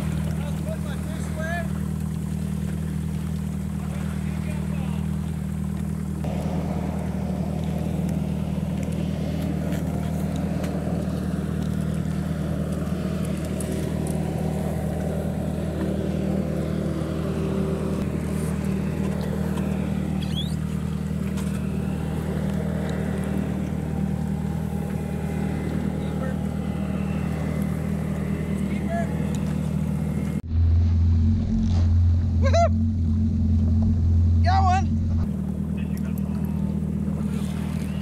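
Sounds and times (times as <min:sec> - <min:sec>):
jet ski engine droning: 0:00.0 - 0:38.0.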